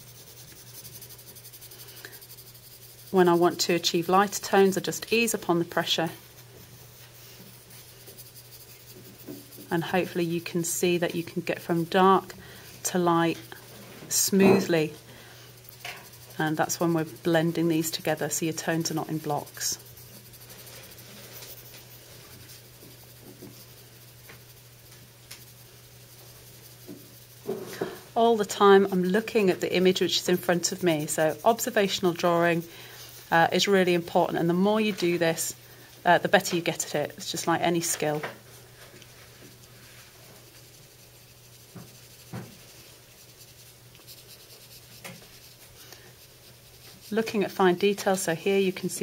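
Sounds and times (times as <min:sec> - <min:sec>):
pencil scratching on paper: 0:00.0 - 0:35.6, 0:39.3 - 0:49.0.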